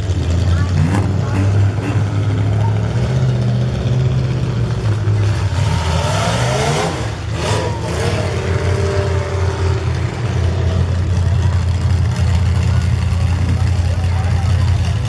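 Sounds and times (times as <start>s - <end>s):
car engines droning: 0.0s - 15.0s
engine revving: 0.0s - 15.0s
exhaust rush: 0.0s - 15.0s.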